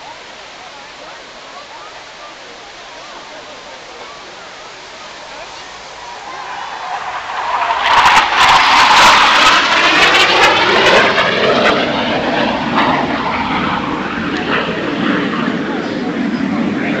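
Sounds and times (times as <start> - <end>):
jet flying past: 3.0 - 17.0.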